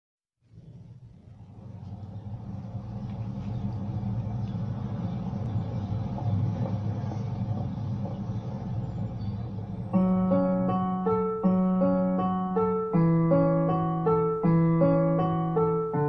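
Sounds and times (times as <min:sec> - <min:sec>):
steady low rumble: 0:00.4 - 0:16.0.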